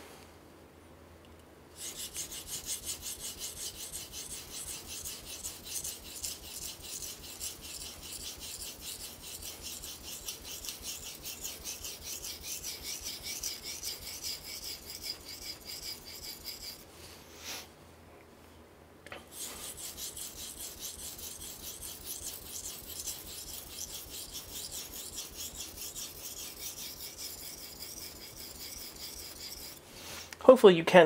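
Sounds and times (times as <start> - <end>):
knife scraping on whetstone: 1.8 - 16.9, 19.2 - 30.2.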